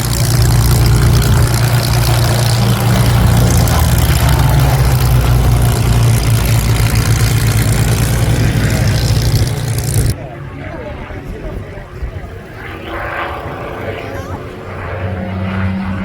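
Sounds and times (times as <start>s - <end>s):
propeller aircraft engine drone: 0.0s - 16.0s.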